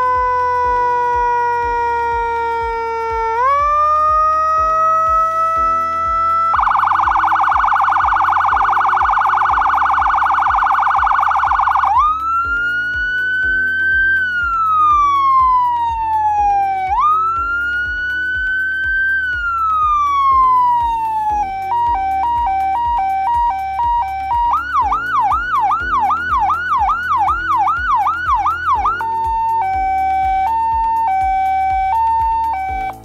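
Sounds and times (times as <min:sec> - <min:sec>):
electronic siren: 0:00.0 - 0:33.0.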